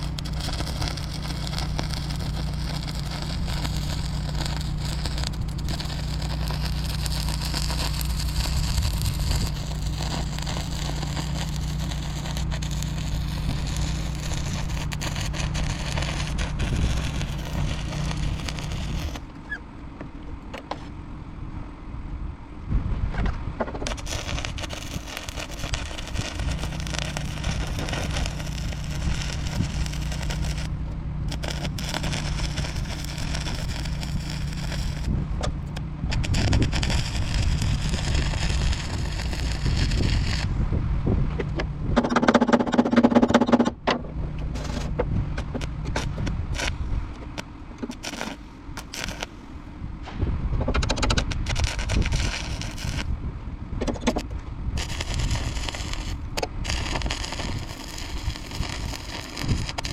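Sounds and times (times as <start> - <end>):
welding arc crackling and buzzing: 0.0 - 19.6, 23.7 - 40.6, 44.4 - 49.5, 50.6 - 53.2, 53.9 - 59.9.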